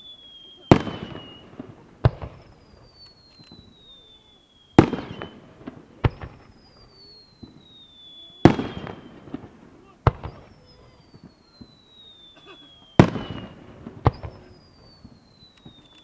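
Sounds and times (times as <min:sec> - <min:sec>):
firework bangs: 0:00.0 - 0:16.0
firework whistling: 0:00.0 - 0:16.0
small firework pops: 0:00.0 - 0:16.0.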